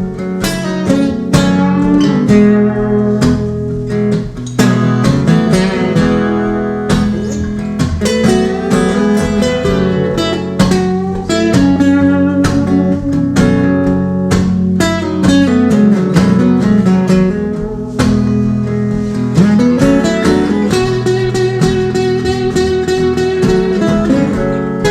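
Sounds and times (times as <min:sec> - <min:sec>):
acoustic guitar playing: 0:00.0 - 0:24.9.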